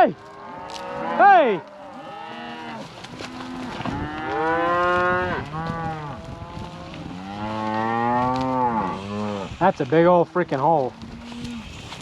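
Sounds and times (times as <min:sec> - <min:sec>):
cattle mooing: 0:00.0 - 0:12.0.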